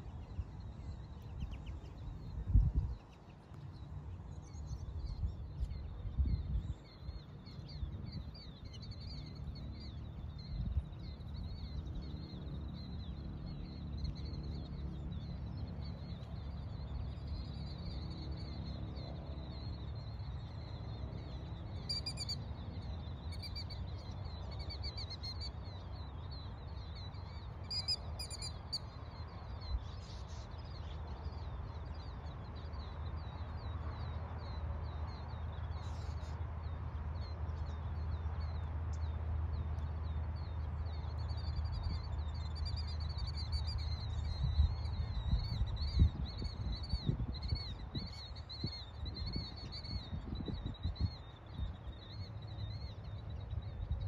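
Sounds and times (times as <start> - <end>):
low rumble with gusts: 0.0 - 24.8, 28.6 - 54.0
small birds chirping and twittering: 0.0 - 54.0.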